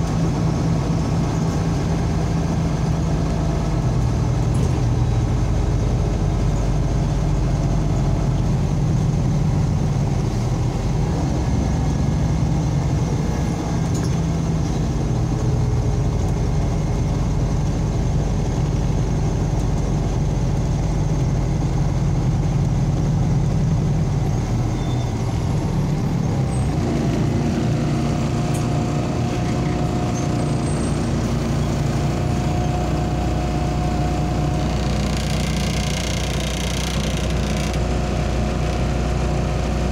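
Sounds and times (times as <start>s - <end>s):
bus engine hum: 0.0s - 39.9s.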